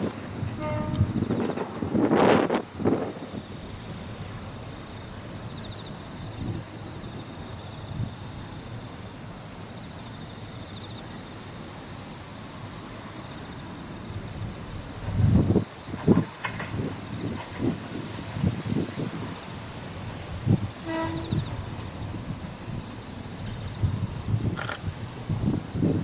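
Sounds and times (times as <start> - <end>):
low hiss: 0.0 - 26.0
insects chirring: 0.5 - 26.0.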